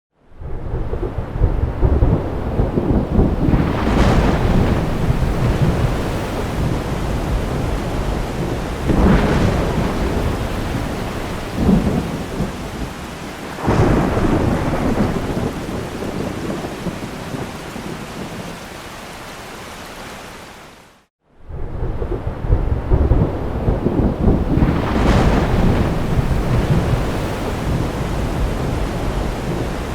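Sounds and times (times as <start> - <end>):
heavy rain: 0.3 - 29.9
rumbling thunder: 0.4 - 18.5, 21.4 - 29.9
thunderclaps: 0.4 - 18.6, 21.4 - 29.9.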